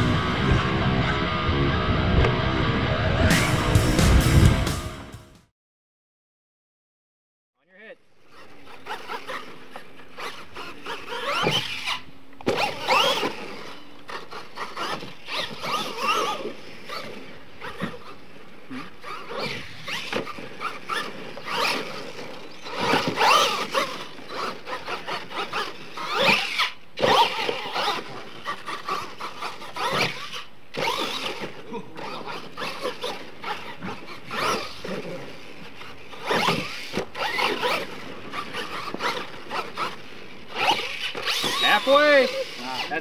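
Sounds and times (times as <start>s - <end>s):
rc truck motor whining: 8.2s - 43.0s.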